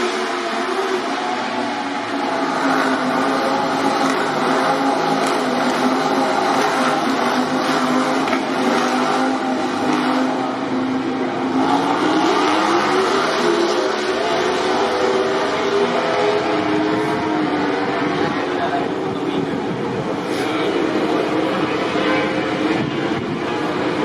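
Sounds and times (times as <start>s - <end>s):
racing motorcycle engine: 0.0s - 24.0s.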